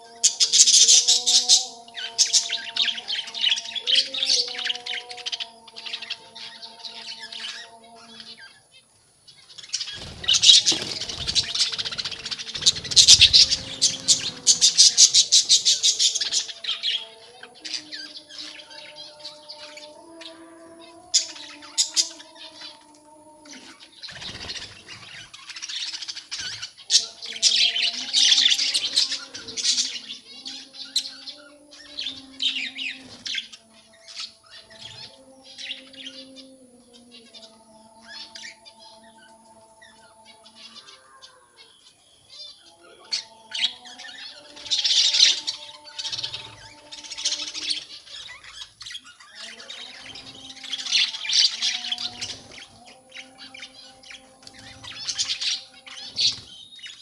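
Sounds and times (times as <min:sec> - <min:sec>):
budgerigars chattering and chirping: 0:00.0 - 0:22.9, 0:23.5 - 0:57.0.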